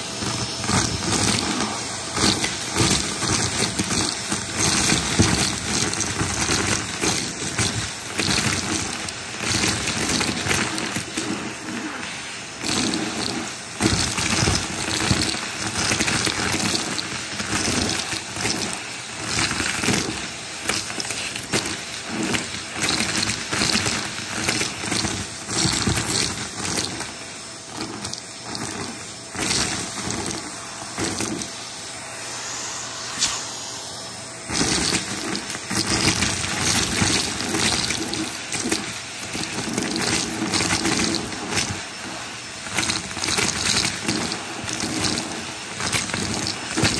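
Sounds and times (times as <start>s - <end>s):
pieces rattling up vacuum wand: 0.0s - 31.7s, 34.4s - 46.9s
vacuum cleaner rushing air: 0.0s - 46.9s.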